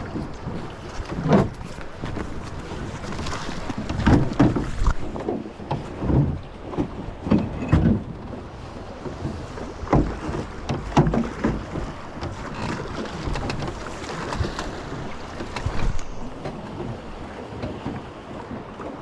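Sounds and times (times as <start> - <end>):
wind on microphone: 0.0 - 18.1
river water running: 0.0 - 19.0
water slapping boat hull: 0.0 - 19.0.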